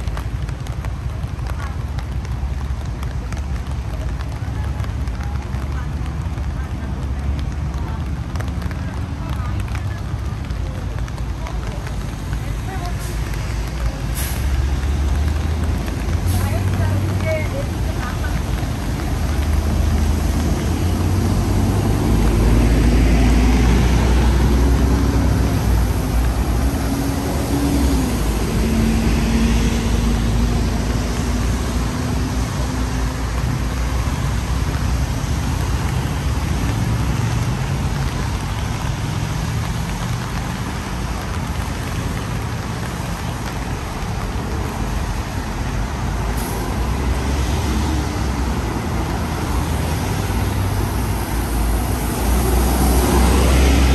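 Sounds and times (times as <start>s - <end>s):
heavy vehicle engine rumble: 0.0s - 53.9s.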